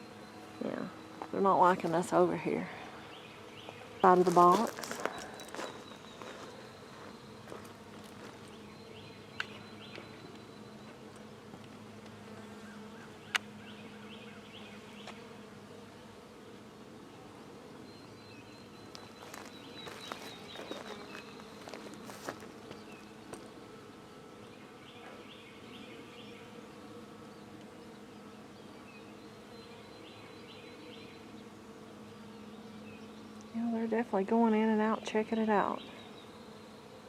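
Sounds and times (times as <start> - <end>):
honeybees buzzing: 0.0 - 37.0.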